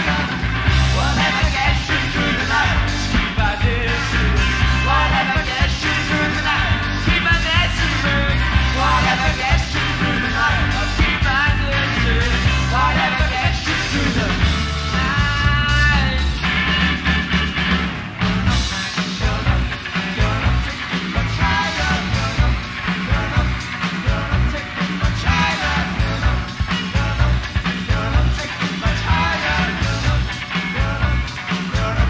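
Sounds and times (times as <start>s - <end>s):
bass and drums: 0.0s - 32.0s
sliding lead melody: 0.0s - 32.0s.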